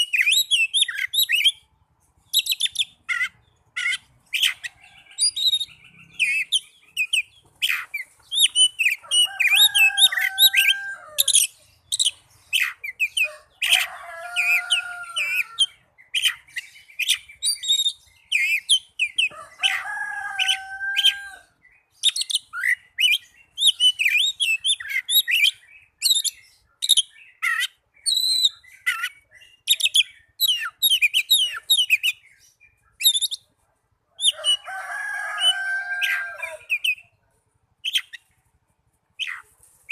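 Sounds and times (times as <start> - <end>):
magpie-robin singing: 0.0 - 33.6, 34.2 - 37.2, 37.8 - 38.5, 39.1 - 39.9.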